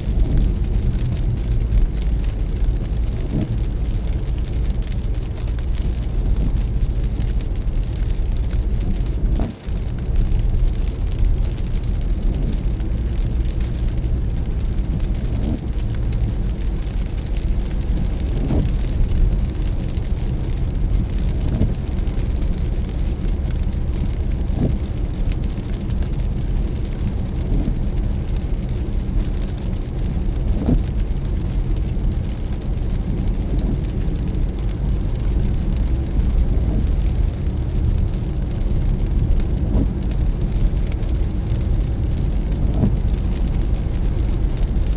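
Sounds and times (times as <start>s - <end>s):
car road and engine rumble: 0.0s - 44.9s
rain and wet tyres hissing: 0.0s - 44.9s.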